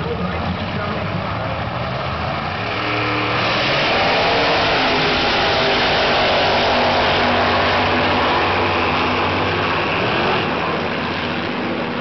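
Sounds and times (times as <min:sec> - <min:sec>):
dragster engine howl: 0:00.0 - 0:12.0.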